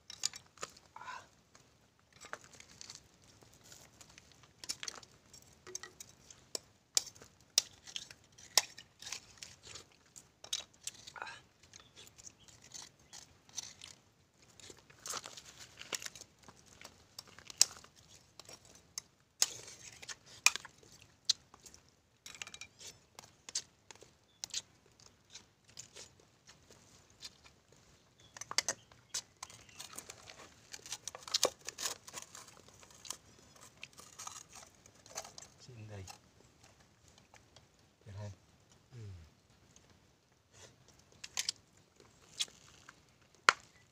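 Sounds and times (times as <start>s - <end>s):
chewing: 0.1s - 37.7s, 39.6s - 43.8s.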